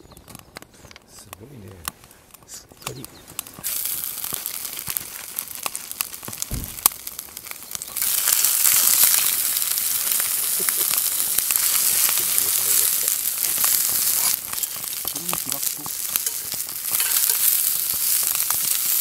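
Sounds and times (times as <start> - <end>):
fire crackling: 0.0 - 19.0
food sizzling in a pan: 3.5 - 19.0.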